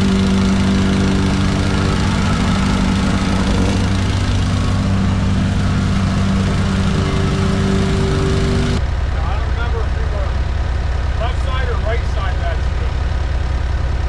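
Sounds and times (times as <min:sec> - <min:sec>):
construction machine engine running: 0:00.0 - 0:14.0.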